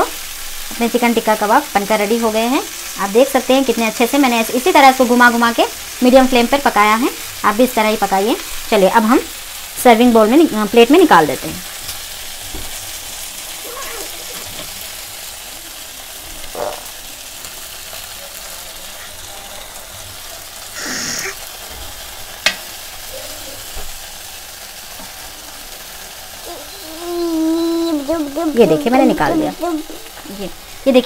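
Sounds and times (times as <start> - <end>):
skewers sizzling in grill pan: 0.0 - 31.0.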